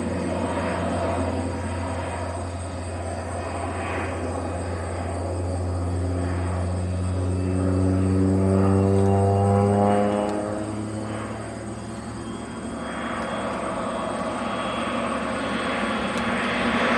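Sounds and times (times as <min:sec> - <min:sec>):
propeller airplane droning overhead: 0:00.0 - 0:16.9.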